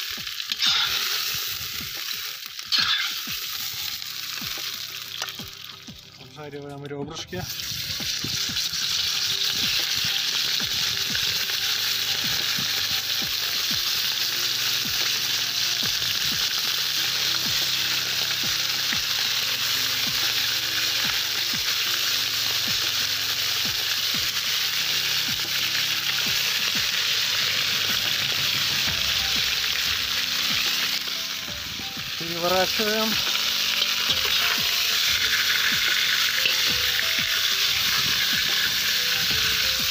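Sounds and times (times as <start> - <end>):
meat sizzling in hot oil: 0.0 - 6.3, 7.2 - 39.9.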